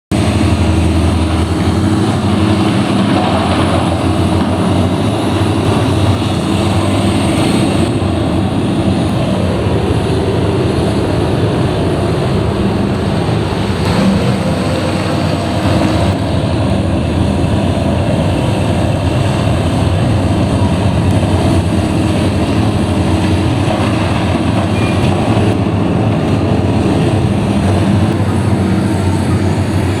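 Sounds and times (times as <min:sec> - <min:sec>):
heavy diesel machinery engines: 0:00.1 - 0:30.0.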